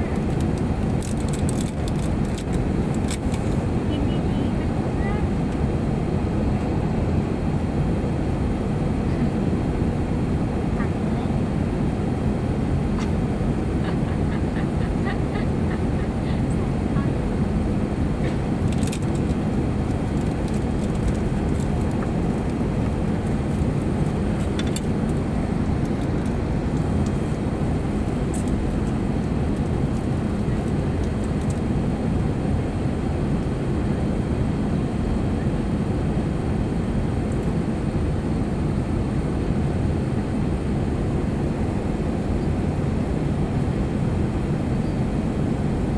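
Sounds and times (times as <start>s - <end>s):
jet airliner cabin noise: 0.0s - 45.9s.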